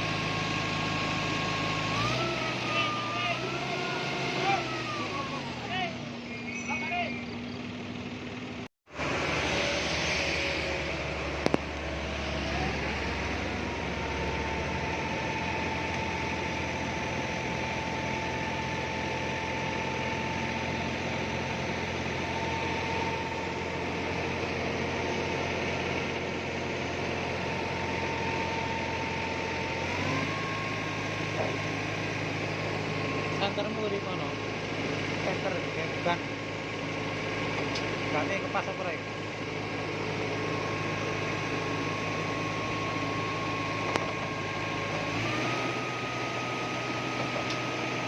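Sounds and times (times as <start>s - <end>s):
diesel truck engine droning: 0.0s - 48.0s.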